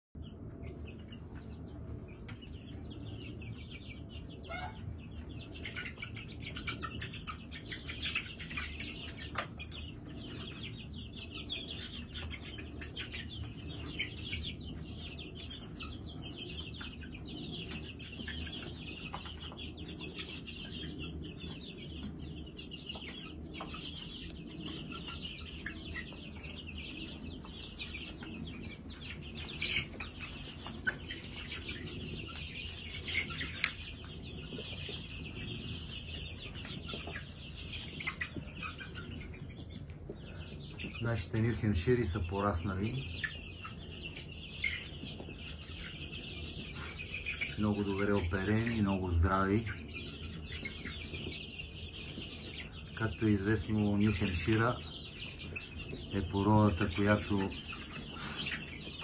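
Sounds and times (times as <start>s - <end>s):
chicks peeping: 0.2s - 59.0s.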